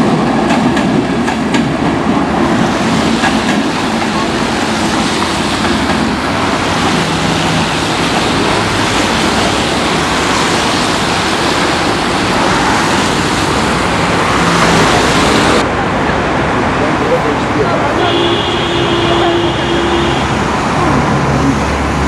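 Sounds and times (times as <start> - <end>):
train passing: 0.0 - 22.0.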